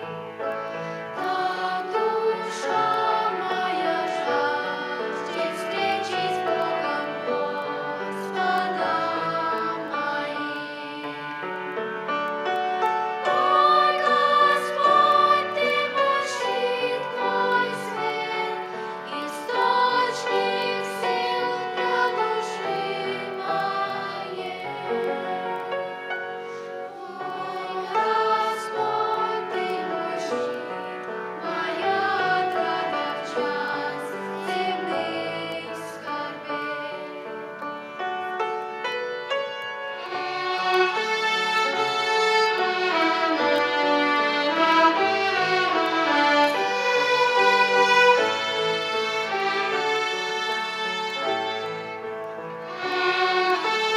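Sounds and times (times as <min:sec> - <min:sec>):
children singing a hymn: 0:00.0 - 0:53.9
instrumental accompaniment: 0:00.0 - 0:53.9
violins playing: 0:00.5 - 0:37.0, 0:39.0 - 0:53.9.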